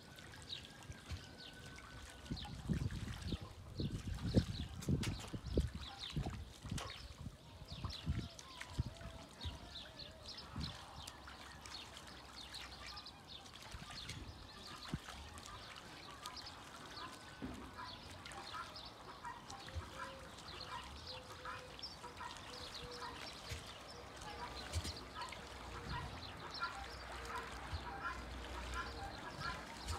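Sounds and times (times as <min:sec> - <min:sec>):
water splashing and dripping: 0:00.0 - 0:29.9.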